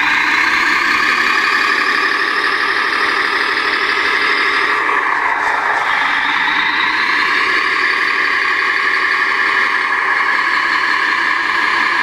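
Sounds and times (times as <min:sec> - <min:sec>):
simulated diesel engine sound: 0:00.0 - 0:12.0.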